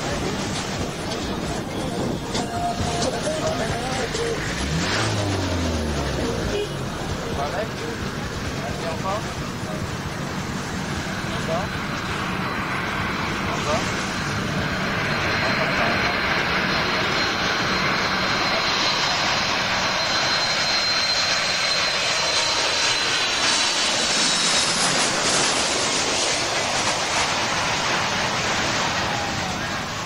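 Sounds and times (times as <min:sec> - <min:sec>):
high jet fan whine: 0:00.0 - 0:30.0
jet plane passing overhead: 0:00.0 - 0:30.0.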